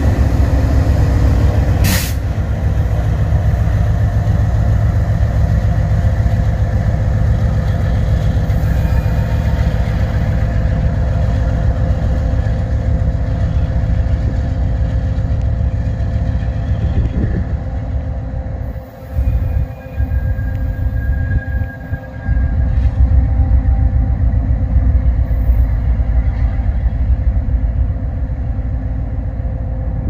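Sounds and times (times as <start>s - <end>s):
diesel locomotive rumble: 0.0s - 30.0s
train wheels rolling on rails: 0.0s - 30.0s.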